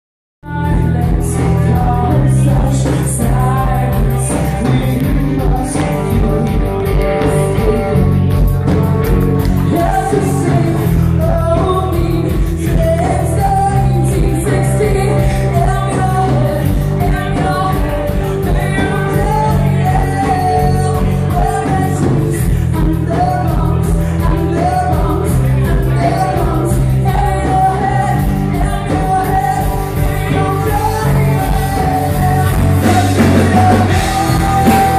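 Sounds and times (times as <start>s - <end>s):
drums: 0.4s - 34.9s
electric guitars: 0.4s - 34.9s
person singing: 0.4s - 34.9s.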